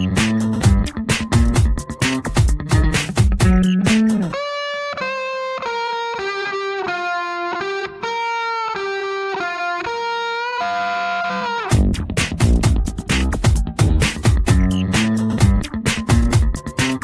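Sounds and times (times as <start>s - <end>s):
electric guitar slow melody: 0.0s - 17.0s.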